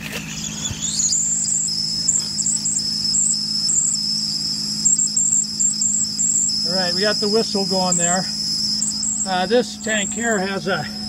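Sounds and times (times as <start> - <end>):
steady low hum: 0.0 - 11.0
high wavering alarm whistle: 0.1 - 11.0.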